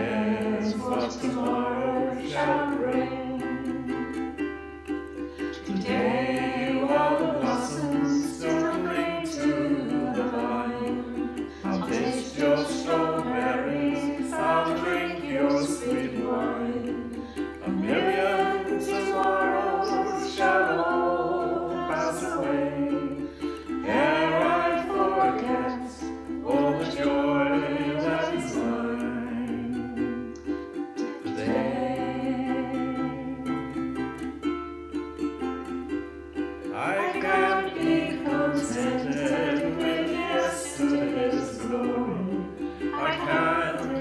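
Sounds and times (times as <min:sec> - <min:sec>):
person singing: 0:00.0 - 0:36.0, 0:36.6 - 0:44.0
ukulele strumming: 0:00.0 - 0:44.0.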